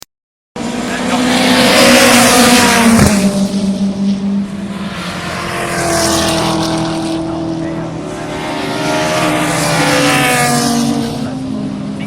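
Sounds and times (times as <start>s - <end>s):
race cars passing at speed: 0.6s - 12.0s.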